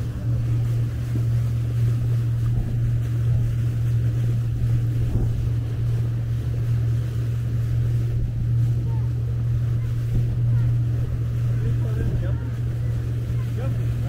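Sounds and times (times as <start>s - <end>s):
motorboat motor drone: 0.0s - 14.0s
water rushing past hull: 0.0s - 14.0s
wind on microphone: 0.0s - 14.0s.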